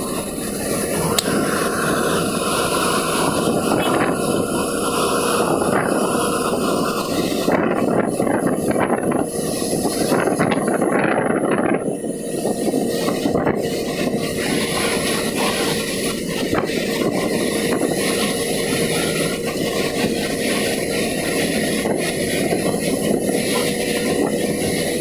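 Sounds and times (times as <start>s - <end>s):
truck engine: 0.0s - 25.0s.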